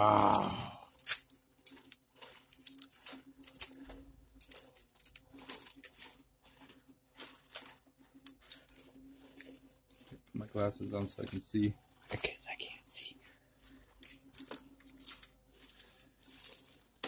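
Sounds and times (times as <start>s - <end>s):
foil crinkling: 0.0s - 17.0s.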